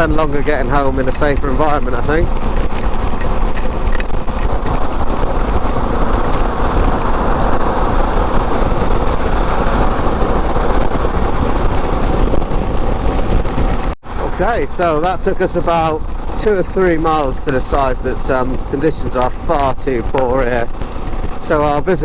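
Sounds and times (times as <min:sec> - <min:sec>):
motorcycle engine running: 0:00.0 - 0:22.0
wind road and spray rush: 0:00.0 - 0:22.0.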